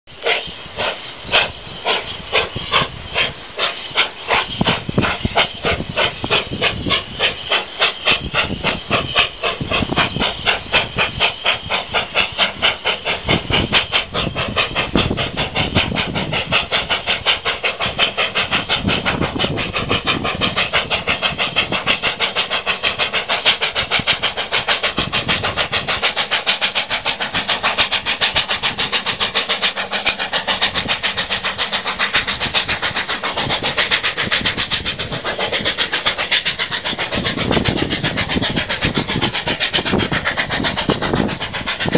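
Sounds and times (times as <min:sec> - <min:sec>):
steam hissing: 0:00.0 - 0:41.9
steam locomotive exhaust chuffing: 0:00.0 - 0:41.9.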